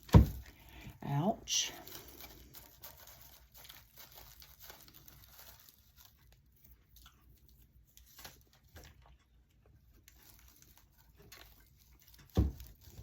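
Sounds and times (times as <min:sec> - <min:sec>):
craft materials rustling and crinkling: 0:00.0 - 0:13.0.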